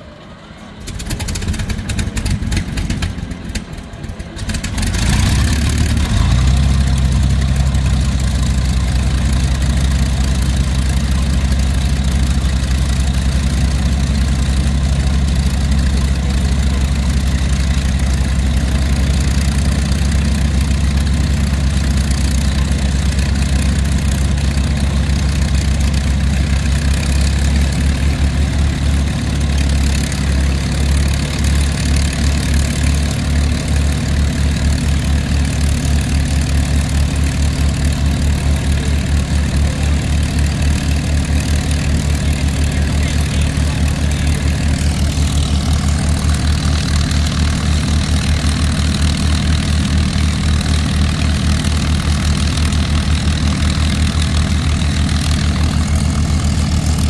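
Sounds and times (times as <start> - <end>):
aircraft engine idling: 0.0 - 57.0.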